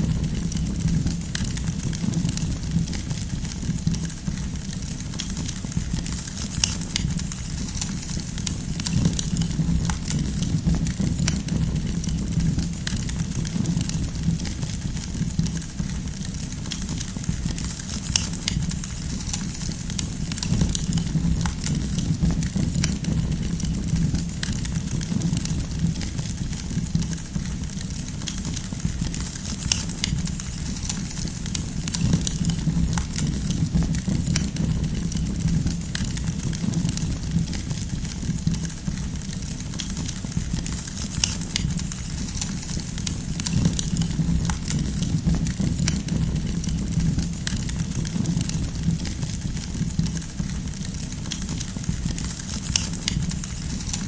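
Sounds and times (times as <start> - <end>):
campfire flames rumbling: 0.0 - 54.0
firewood popping and snapping: 0.0 - 54.0.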